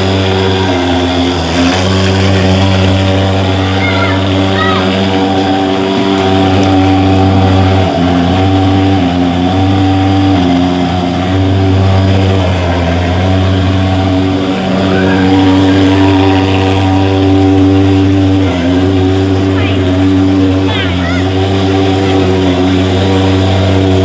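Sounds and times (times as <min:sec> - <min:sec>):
fogging machine buzzing: 0:00.0 - 0:24.0.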